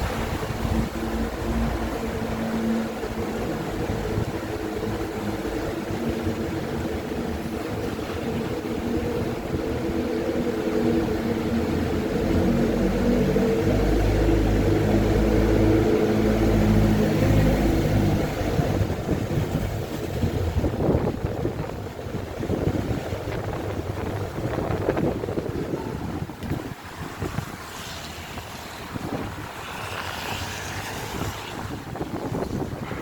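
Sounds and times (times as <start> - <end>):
heavy low rumble: 0.0 - 27.6
wind and rain buffeting microphone: 0.0 - 33.0.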